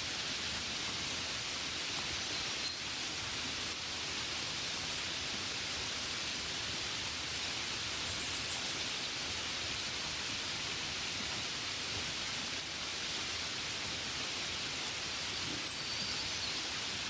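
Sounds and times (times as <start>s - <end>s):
gentle rain hiss: 0.0s - 17.0s.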